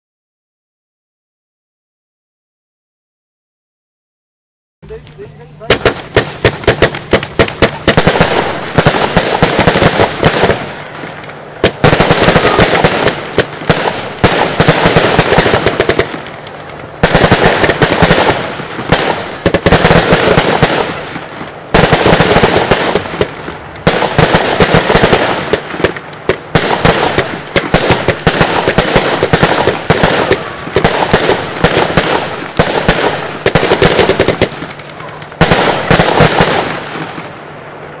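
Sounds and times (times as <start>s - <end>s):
firework cake cracks and bangs: 5.6s - 37.3s.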